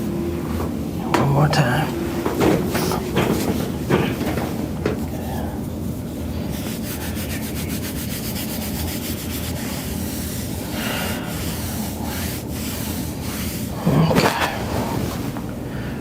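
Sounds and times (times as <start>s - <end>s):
steady rubbing noise: 0.0s - 15.7s.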